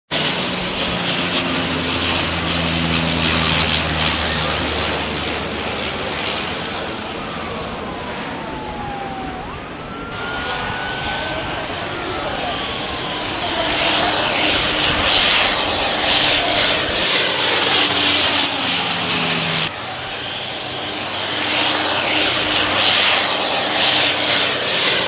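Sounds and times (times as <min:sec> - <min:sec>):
turboprop engines droning: 0:00.1 - 0:25.0.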